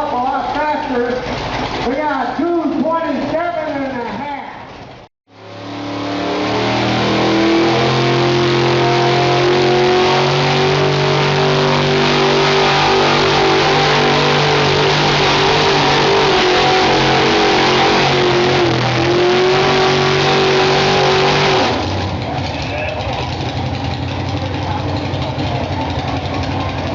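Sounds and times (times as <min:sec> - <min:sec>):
truck engine at high revs: 0:04.7 - 0:26.9.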